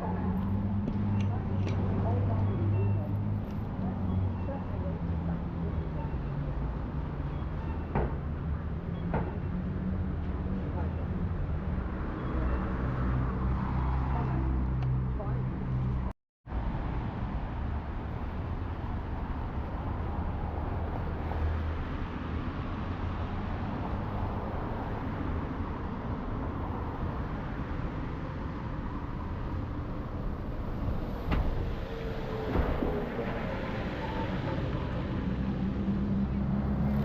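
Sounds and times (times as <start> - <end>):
traffic engines rumbling: 0.0 - 37.0.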